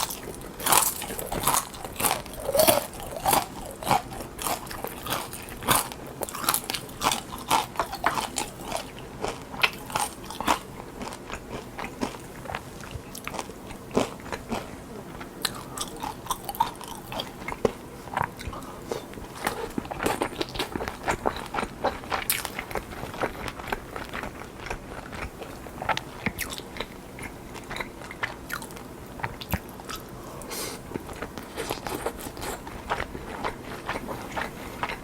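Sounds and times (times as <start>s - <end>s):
crunching and chewing fried food: 0.0s - 35.0s.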